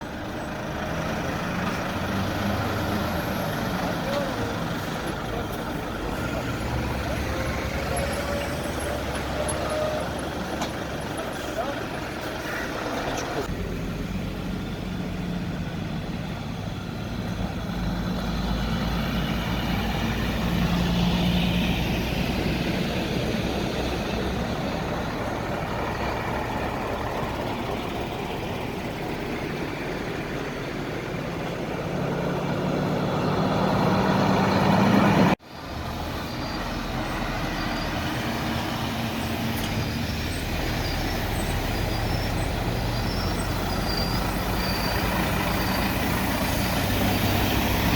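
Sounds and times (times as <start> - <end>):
heavy truck engines running: 0.0 - 47.9
road traffic noise: 0.0 - 47.9.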